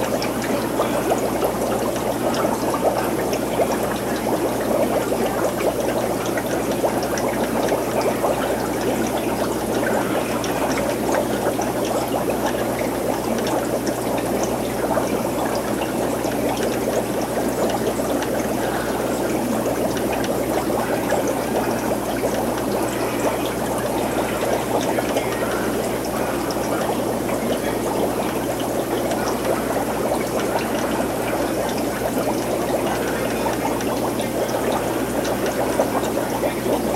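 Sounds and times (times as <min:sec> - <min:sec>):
aquarium water trickling and bubbling: 0:00.0 - 0:36.9
low pump hum: 0:00.0 - 0:36.9.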